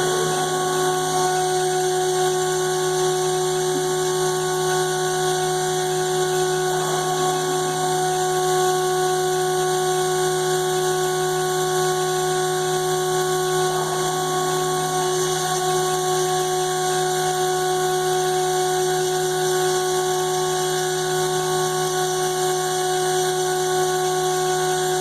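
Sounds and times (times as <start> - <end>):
router spindle whine: 0.0 - 25.0.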